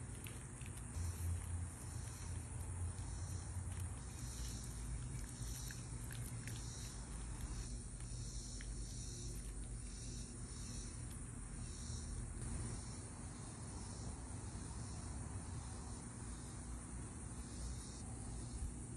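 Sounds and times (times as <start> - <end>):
constant low rumble: 0.0 - 18.9
insects chirring: 0.0 - 18.9.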